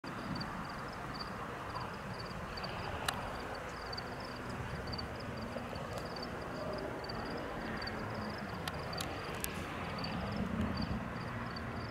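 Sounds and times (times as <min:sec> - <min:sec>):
insects chirping: 0:00.1 - 0:11.9.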